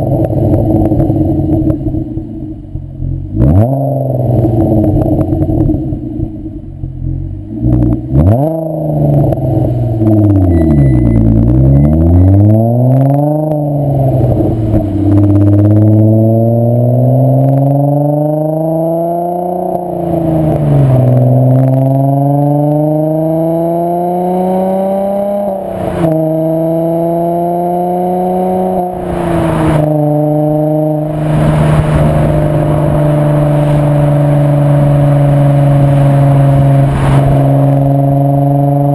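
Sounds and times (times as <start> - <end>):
car engine revving through gears: 3.3 - 6.2, 7.5 - 38.9.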